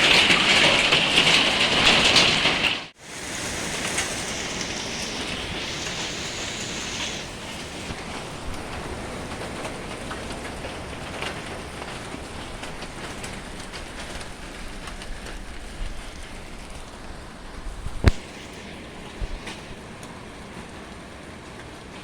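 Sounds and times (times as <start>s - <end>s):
hailstones ticking: 0.0s - 22.0s
rain and hail hissing: 0.0s - 22.0s.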